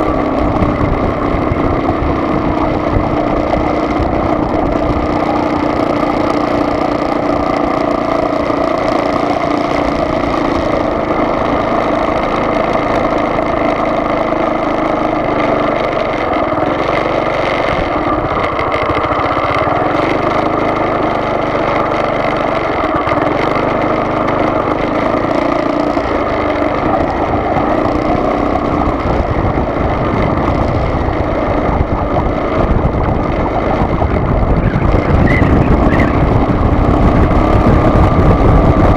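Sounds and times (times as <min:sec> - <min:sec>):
car engine hum: 0:00.0 - 0:38.9
road and tyre noise: 0:00.0 - 0:38.9.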